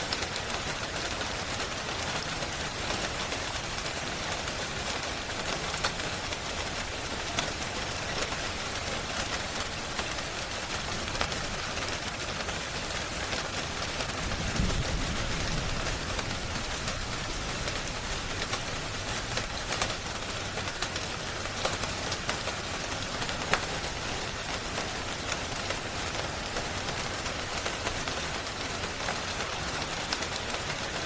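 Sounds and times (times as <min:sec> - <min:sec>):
sharp crackles and ticks: 0:00.0 - 0:31.0
steady rain: 0:00.0 - 0:31.0.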